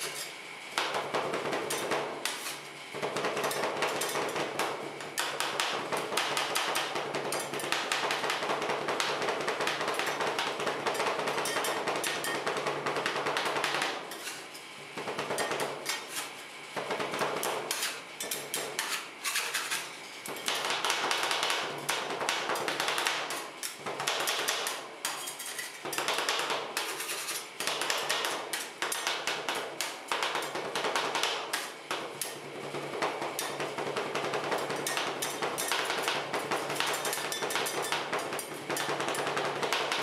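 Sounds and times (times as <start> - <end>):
metal spatulas chopping on metal plate: 0.0 - 32.4, 34.4 - 40.0.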